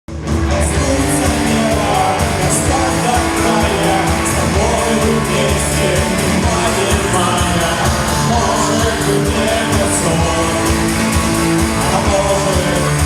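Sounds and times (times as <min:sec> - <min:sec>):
live rock band playing: 0:00.1 - 0:13.0
person singing: 0:00.5 - 0:13.0.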